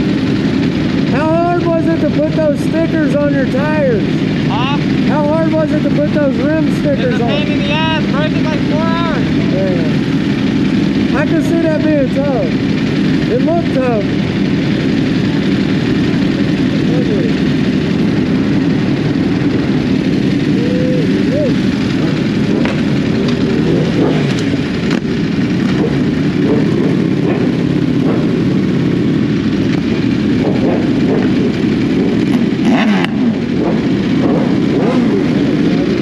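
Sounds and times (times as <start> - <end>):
sport-bike engines revving: 0.0 - 36.0.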